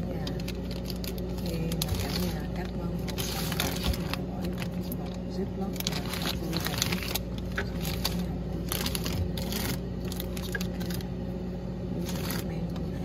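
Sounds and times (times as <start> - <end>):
plastic bag crinkling: 0.0 - 11.3, 12.0 - 12.9
steady low hum: 0.0 - 13.0.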